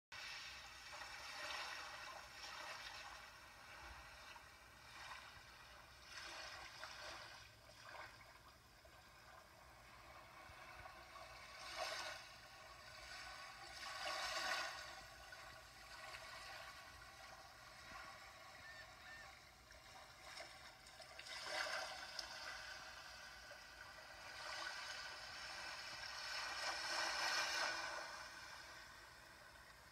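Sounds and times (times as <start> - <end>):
sea waves washing in: 0.2 - 29.9.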